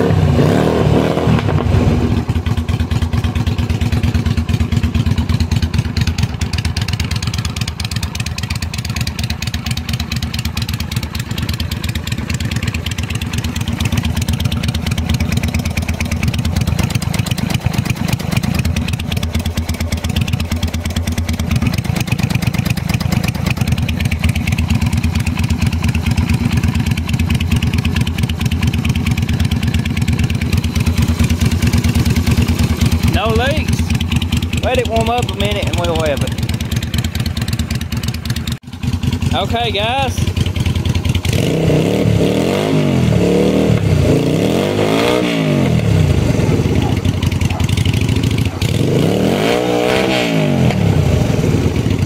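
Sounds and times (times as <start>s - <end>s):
motorcycle engine idling: 1.4s - 52.0s
exhaust popping: 8.7s - 52.0s.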